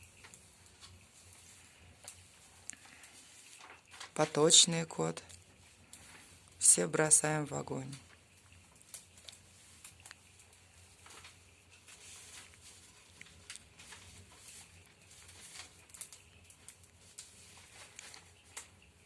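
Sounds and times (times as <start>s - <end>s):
fire popping: 0.0s - 19.0s
paper fire crackling: 0.0s - 19.0s
soft fire hiss: 0.0s - 19.0s.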